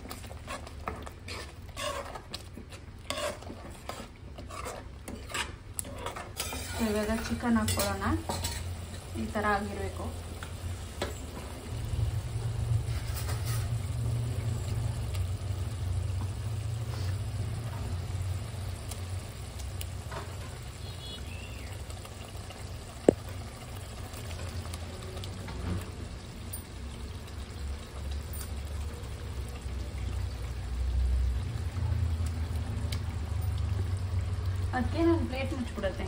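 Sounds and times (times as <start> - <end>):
gravy bubbling in metal pan: 0.0 - 36.0.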